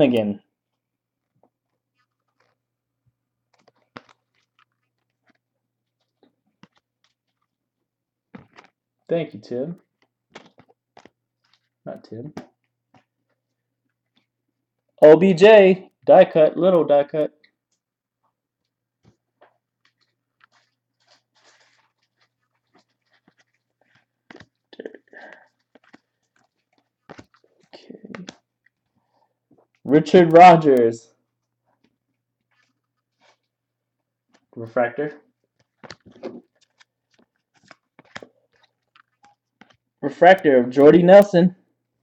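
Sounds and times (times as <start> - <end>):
trading cards and packaging handled: 0.6 - 9.1, 9.7 - 15.1, 16.7 - 41.3.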